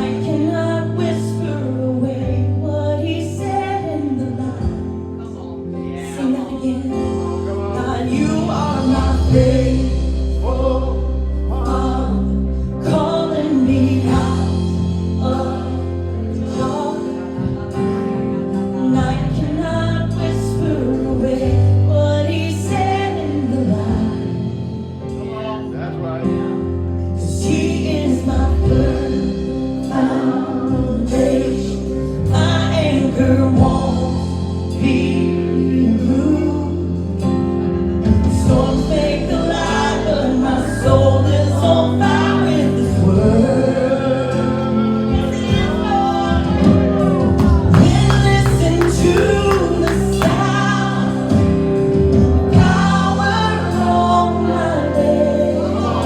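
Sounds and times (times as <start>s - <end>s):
gospel choir singing: 0.0s - 56.0s
live band playing: 0.0s - 56.0s.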